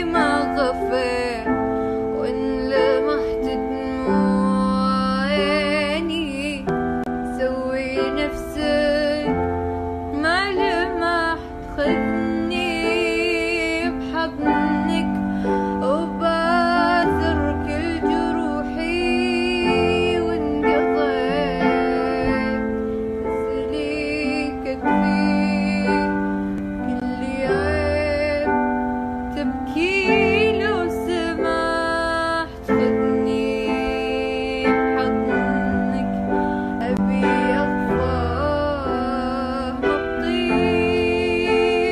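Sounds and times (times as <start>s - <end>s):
girl singing: 0.0s - 41.9s
keyboard chords with bass pulse: 0.0s - 41.9s.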